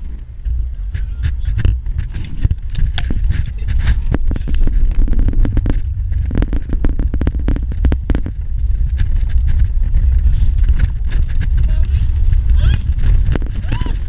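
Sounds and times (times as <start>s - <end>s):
vehicle body rattling over bumps: 0.0s - 14.0s
vehicle engine and tyres rumbling: 0.0s - 14.0s.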